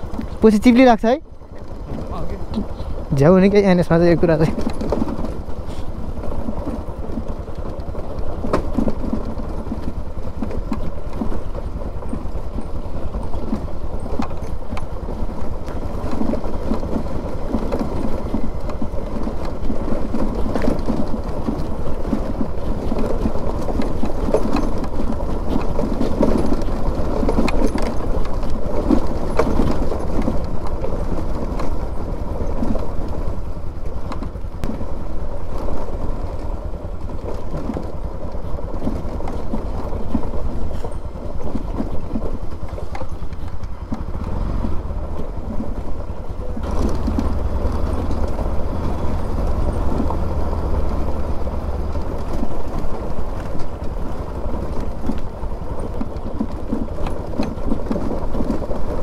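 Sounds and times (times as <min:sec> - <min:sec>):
knocks and rattles from bumps: 0:00.0 - 0:59.0
motorcycle engine rumbling: 0:00.0 - 0:59.0.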